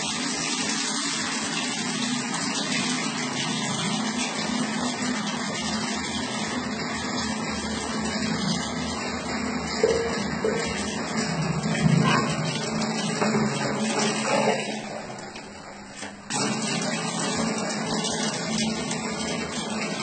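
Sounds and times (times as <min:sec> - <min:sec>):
water running into sink: 0:00.0 - 0:20.0.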